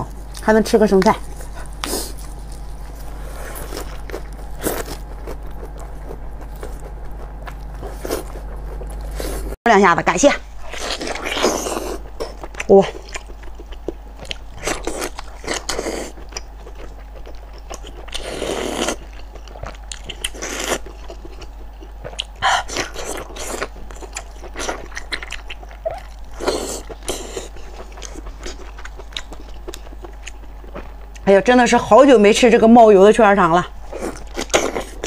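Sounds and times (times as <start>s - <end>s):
wet chewing and mouth smacking: 1.0s - 9.6s, 10.6s - 31.3s.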